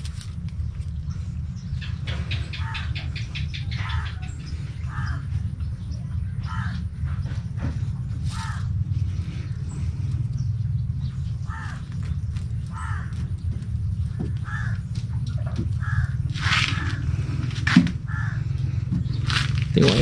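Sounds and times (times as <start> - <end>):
steady low hum: 0.0 - 20.0
bird calling: 1.0 - 20.0.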